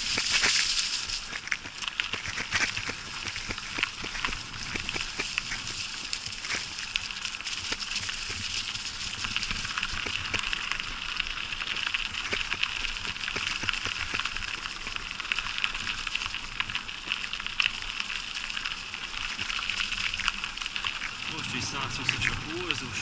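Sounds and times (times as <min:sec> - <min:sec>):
bicycle tyres on dry leaves: 0:00.0 - 0:23.0.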